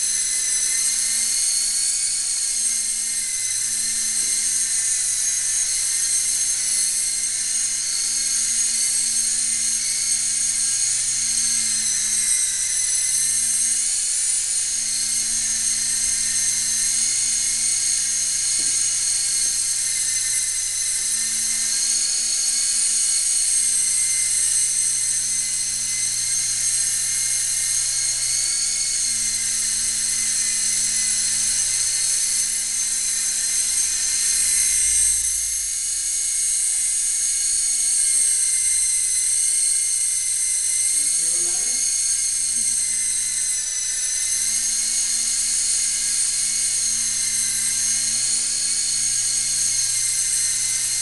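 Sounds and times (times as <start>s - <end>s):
toy helicopter motors whining: 0.0s - 51.0s.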